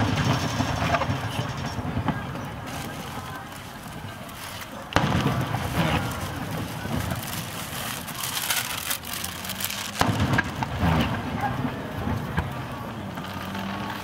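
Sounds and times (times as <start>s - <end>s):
firework shells booming: 0.0s - 8.7s, 9.4s - 13.4s.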